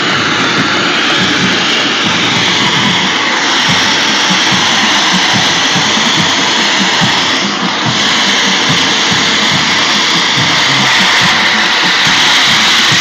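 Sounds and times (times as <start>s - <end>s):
smoke machine hissing: 0.0s - 13.0s
stadium crowd cheering: 0.0s - 13.0s.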